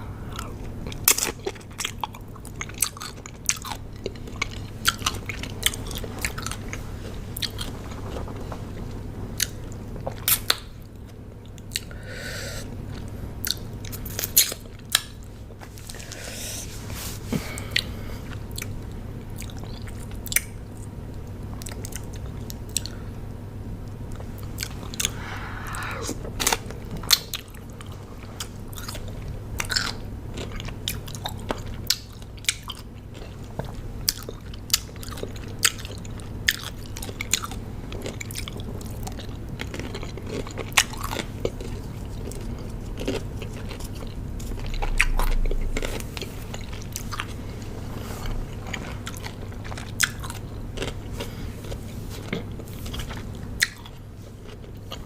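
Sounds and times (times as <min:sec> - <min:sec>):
crunchy chewing of cucumber: 0:00.0 - 0:10.8, 0:12.8 - 0:23.1, 0:23.8 - 0:55.0
steady low hum: 0:00.0 - 0:55.0.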